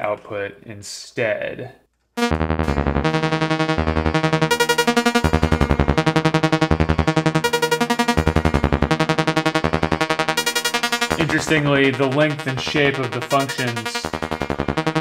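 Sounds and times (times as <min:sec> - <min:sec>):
bright synthetic plucks: 0:02.2 - 0:15.0.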